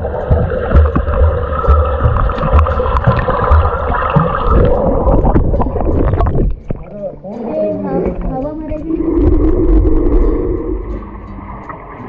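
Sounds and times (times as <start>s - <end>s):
underwater water rush: 0.0s - 7.0s, 7.8s - 12.0s
underwater bubbling: 0.0s - 12.0s.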